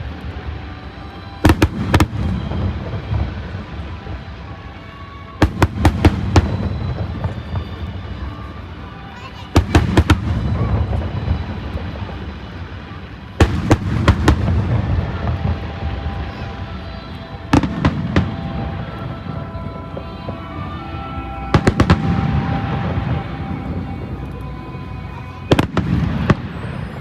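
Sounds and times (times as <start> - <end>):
music: 0.0 - 27.0.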